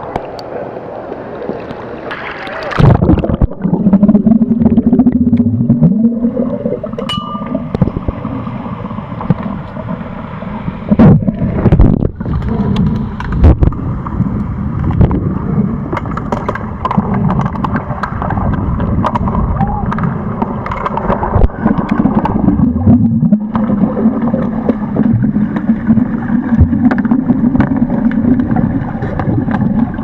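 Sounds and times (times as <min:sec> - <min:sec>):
muffled underwater water and bubbles: 0:00.0 - 0:30.0
low hum: 0:02.7 - 0:30.0.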